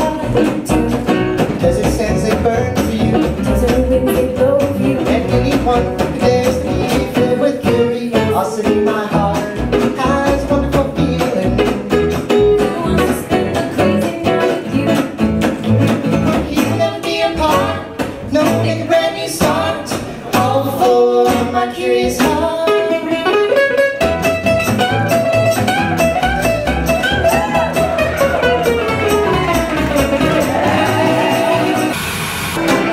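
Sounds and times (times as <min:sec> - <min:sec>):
person singing: 0:00.0 - 0:15.2, 0:16.2 - 0:23.7, 0:27.0 - 0:32.0
upright bass: 0:00.0 - 0:32.0, 0:32.6 - 0:32.9
acoustic guitars: 0:00.0 - 0:32.9.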